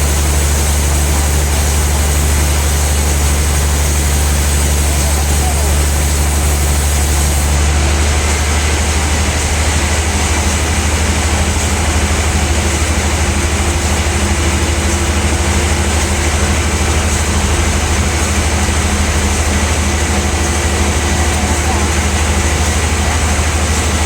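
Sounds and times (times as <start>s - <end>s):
sawmill machinery droning: 0.0s - 24.0s.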